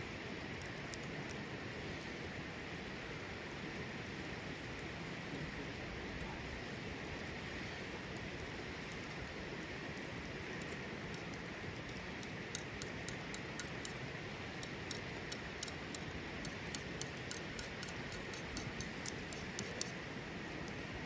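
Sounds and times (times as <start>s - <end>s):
campfire crackling: 0.1s - 21.0s.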